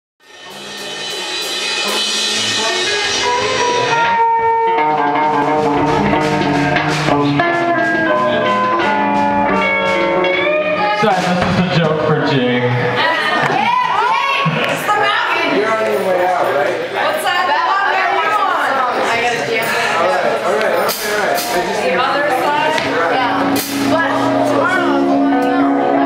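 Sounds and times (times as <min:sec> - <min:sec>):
rock band playing: 0:00.2 - 0:26.0.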